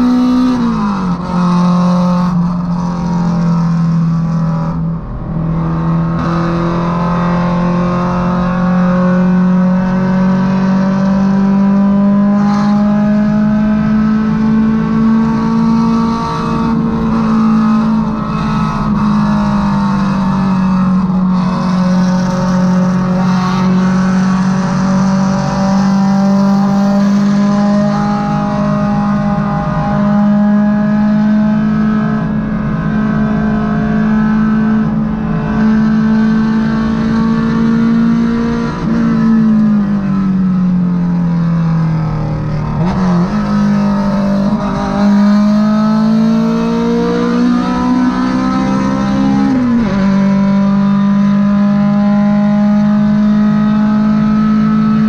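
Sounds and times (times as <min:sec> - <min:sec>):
car engine droning: 0:00.0 - 0:55.0
road and tyre noise: 0:00.0 - 0:55.0.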